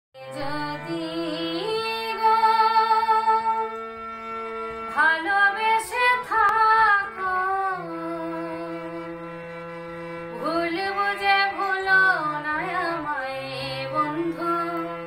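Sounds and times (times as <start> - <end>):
woman singing folk song: 0.2 - 3.7, 5.0 - 9.0, 10.4 - 15.0
harmonium: 0.2 - 15.0
violin: 0.2 - 15.0.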